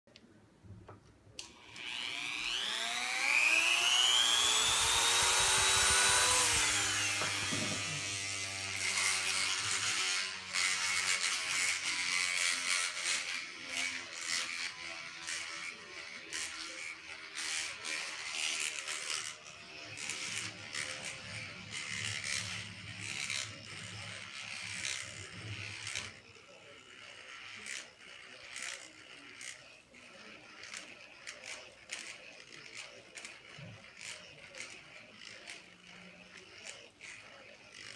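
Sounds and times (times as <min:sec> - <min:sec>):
rotary tool whine: 0:01.4 - 0:37.9
spinning rotor hum: 0:01.6 - 0:37.9.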